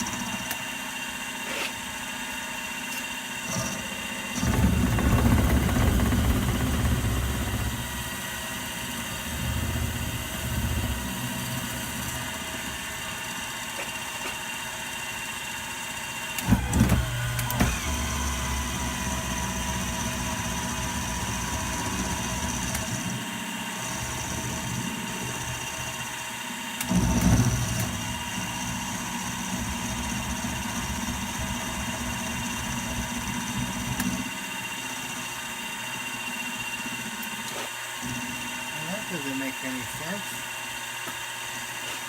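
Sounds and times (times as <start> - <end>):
milling machine running: 0.0 - 41.8.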